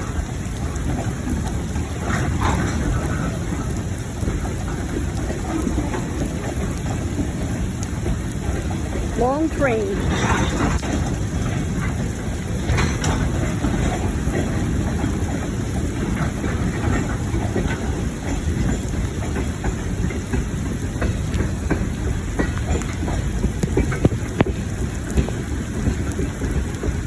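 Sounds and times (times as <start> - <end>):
train rumbling past: 0.0 - 27.0
wheels clicking over rails: 0.0 - 27.0.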